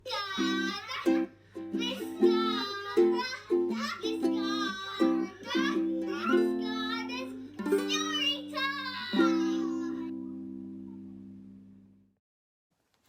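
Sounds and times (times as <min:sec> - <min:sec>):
person singing: 0:00.0 - 0:11.0
ukulele strumming: 0:00.2 - 0:11.8.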